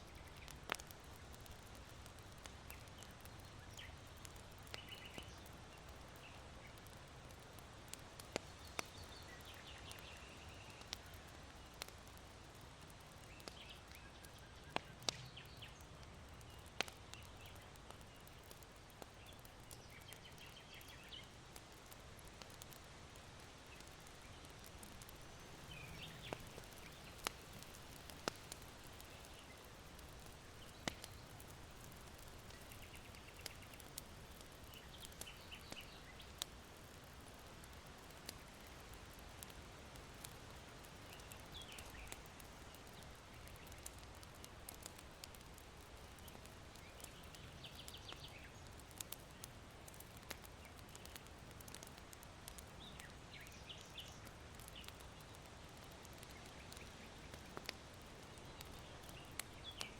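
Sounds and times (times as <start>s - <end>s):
small birds chirping: 0.0s - 39.5s, 40.2s - 59.9s
charcoal fire popping and crackling: 0.0s - 59.9s
soft steady hiss: 0.0s - 59.9s.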